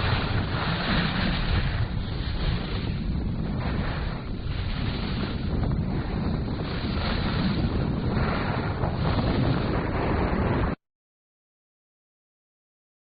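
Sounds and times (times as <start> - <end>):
rough rushing outdoor noise: 0.0 - 10.8.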